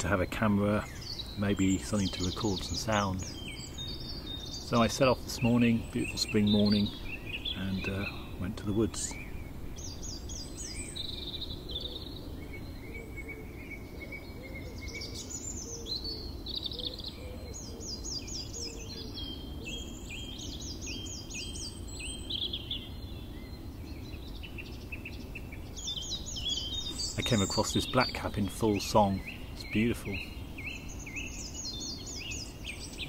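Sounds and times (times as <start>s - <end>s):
low background noise: 0.0s - 33.0s
songbirds singing: 0.0s - 33.0s.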